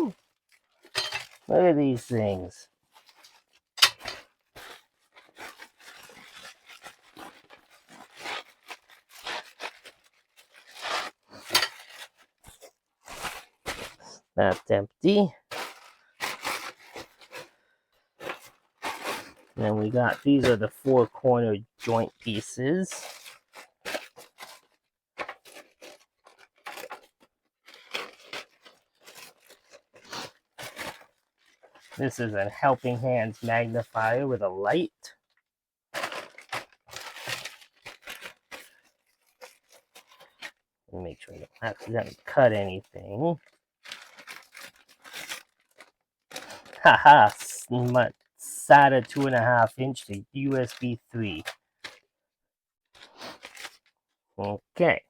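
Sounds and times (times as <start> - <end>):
packaging rustling and scraping: 0.0 - 1.6, 2.2 - 14.7, 15.4 - 21.1, 21.7 - 34.2, 36.0 - 52.2, 52.9 - 54.2.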